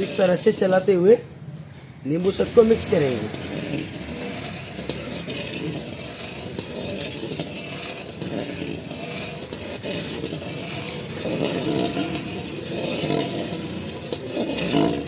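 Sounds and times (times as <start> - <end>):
metal spatula scraping pan: 0.0 - 0.9, 1.8 - 15.0
steady rushing noise: 0.0 - 15.0.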